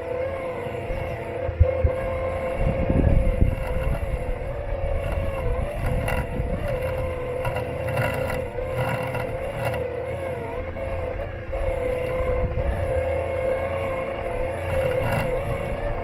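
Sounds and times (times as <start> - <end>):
electric motor whining: 0.0 - 16.0
low rumble: 0.9 - 16.0.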